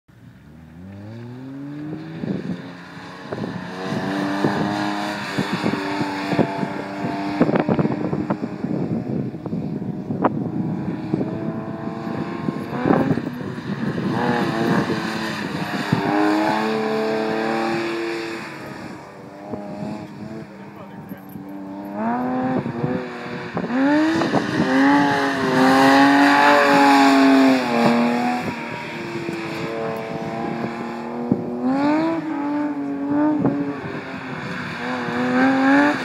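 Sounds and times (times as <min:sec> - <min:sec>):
car engine revving: 0:00.2 - 0:36.0.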